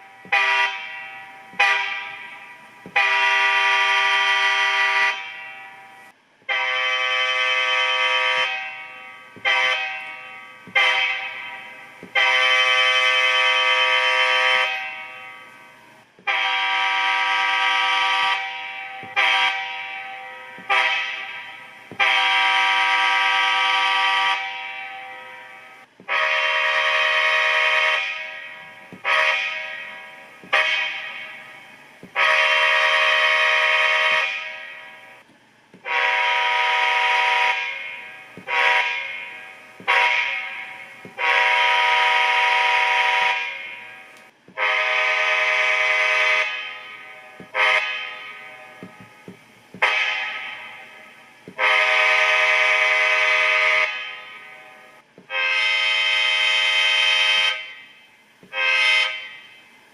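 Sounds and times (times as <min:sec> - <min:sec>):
locomotive air horn blasts: 0:00.0 - 0:59.9.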